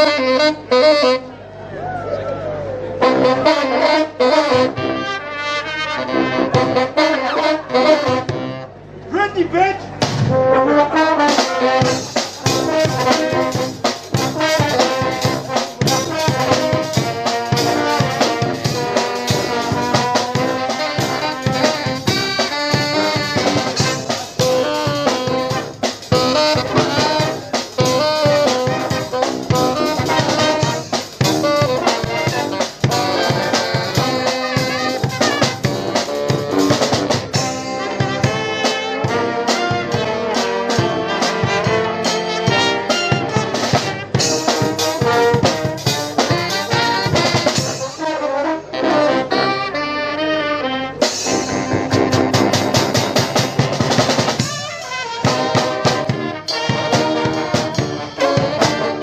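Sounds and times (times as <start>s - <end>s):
brass band playing upbeat tune: 0.0s - 1.7s, 2.7s - 59.0s.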